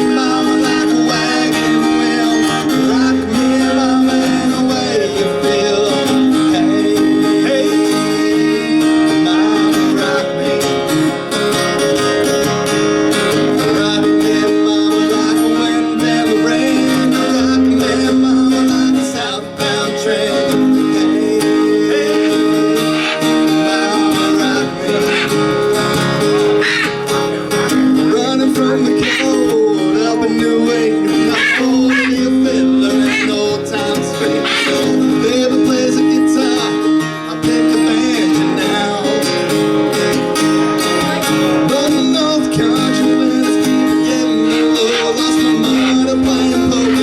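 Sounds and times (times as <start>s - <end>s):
strummed acoustic guitar: 0.0s - 47.0s.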